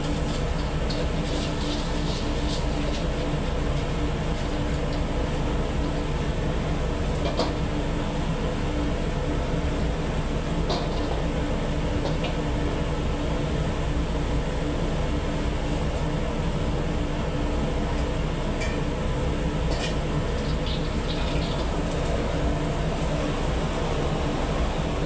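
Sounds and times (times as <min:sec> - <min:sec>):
gas burner roaring: 0:00.0 - 0:25.0.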